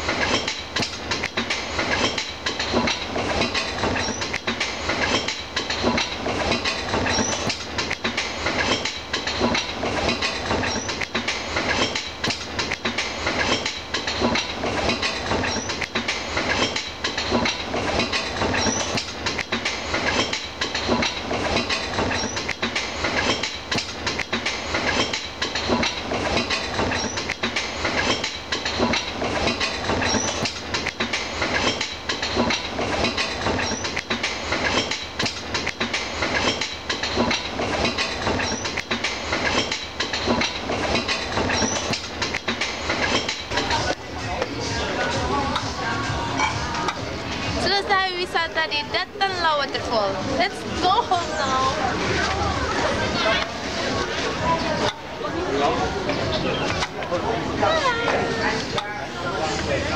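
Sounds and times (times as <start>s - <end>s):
coaster wheels clattering on rail: 0.0s - 59.9s.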